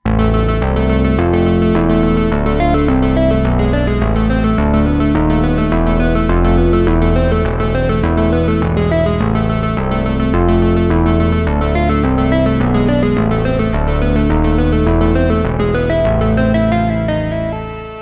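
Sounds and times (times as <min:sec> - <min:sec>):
synthesizer and electric piano music: 0:00.0 - 0:18.0.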